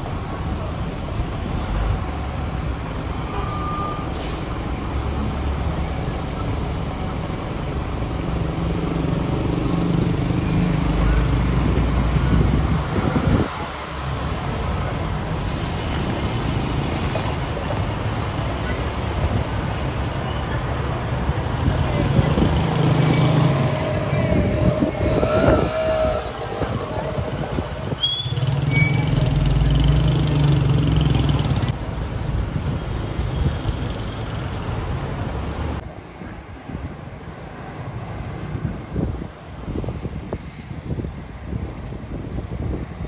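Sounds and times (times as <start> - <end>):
traffic engines rumbling: 0.0 - 43.0.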